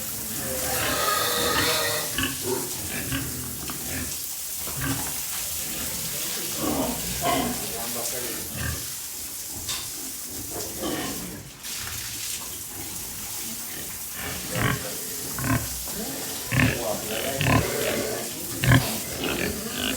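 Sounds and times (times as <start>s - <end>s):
pigs grunting: 0.0s - 9.0s, 9.6s - 11.6s, 12.8s - 19.9s.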